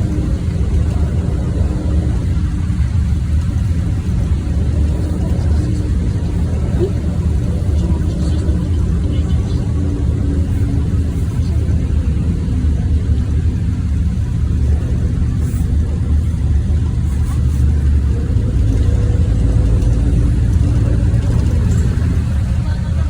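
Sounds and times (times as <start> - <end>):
bus engine and road rumble: 0.0 - 23.0.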